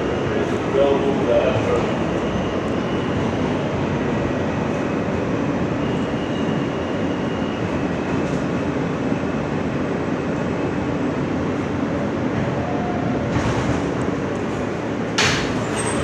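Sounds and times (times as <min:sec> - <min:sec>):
subway car wheels rumbling: 0:00.0 - 0:16.0.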